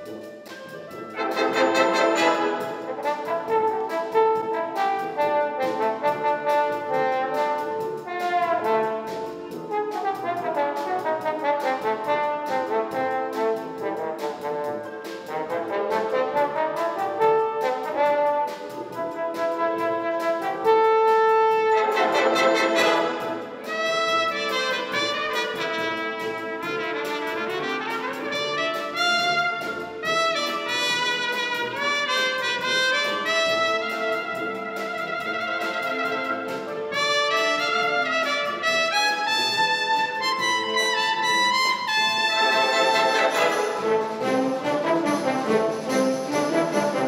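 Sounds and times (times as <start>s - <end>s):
solo trumpet: 0.0s - 47.0s
wind band playing pop medley: 0.0s - 47.0s.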